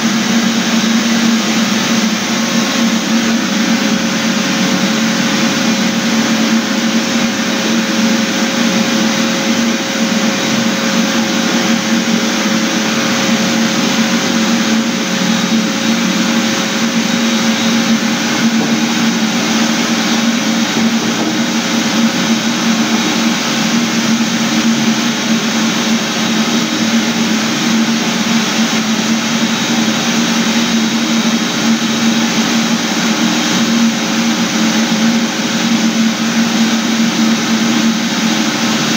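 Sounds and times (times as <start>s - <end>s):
floor-care machine motor humming: 0.0s - 38.9s.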